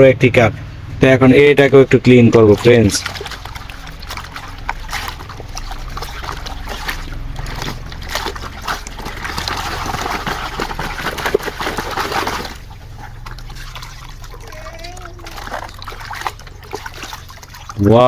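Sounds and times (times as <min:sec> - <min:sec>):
water splashing in a tub: 0:00.0 - 0:18.0.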